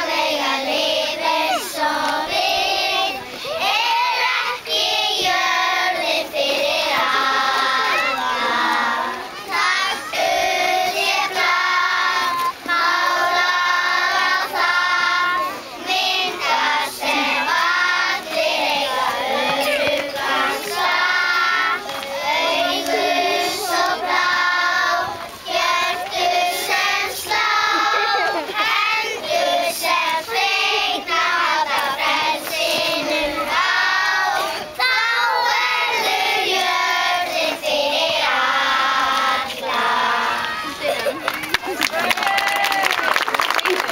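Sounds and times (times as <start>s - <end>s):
children's choir singing: 0.0s - 41.0s.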